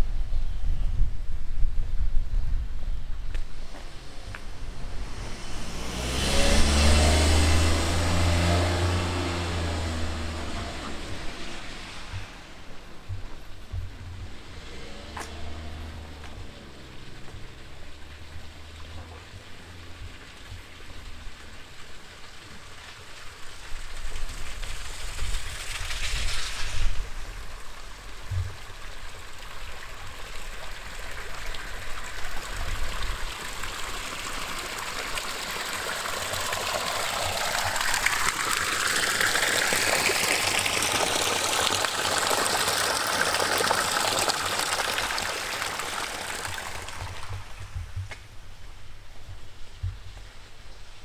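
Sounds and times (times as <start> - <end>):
stream water rushing: 3.6 - 47.9.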